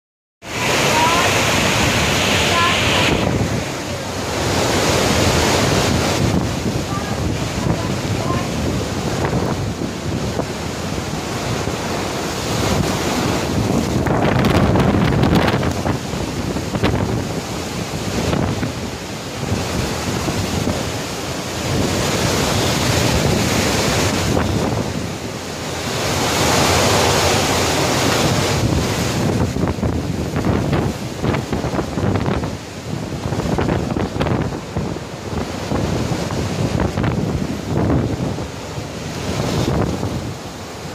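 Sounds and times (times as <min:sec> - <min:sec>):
heavy wind-driven rain: 0:00.4 - 0:40.9
strong gusty wind: 0:00.4 - 0:40.9.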